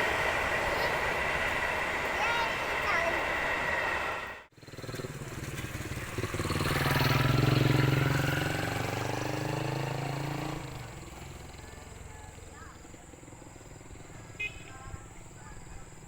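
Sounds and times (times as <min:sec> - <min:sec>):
vehicle motor hum passing: 0:00.0 - 0:14.1.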